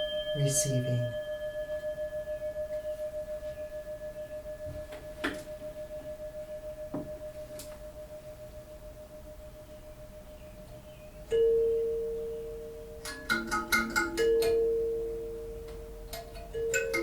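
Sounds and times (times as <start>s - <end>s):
singing bowl ringing: 0.0s - 17.0s.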